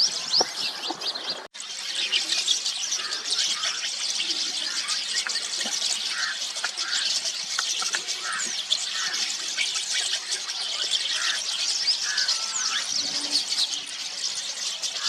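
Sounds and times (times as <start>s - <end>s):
starlings chattering: 0.0s - 15.0s.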